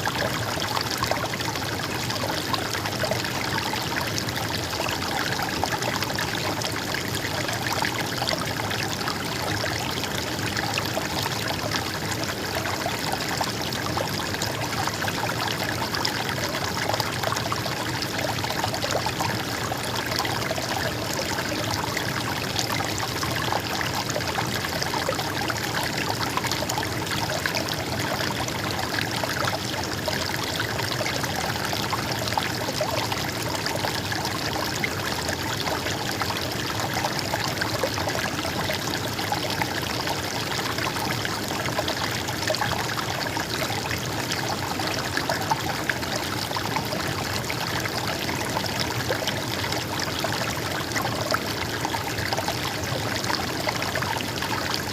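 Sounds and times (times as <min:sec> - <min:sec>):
stream babbling over stones: 0:00.0 - 0:54.9.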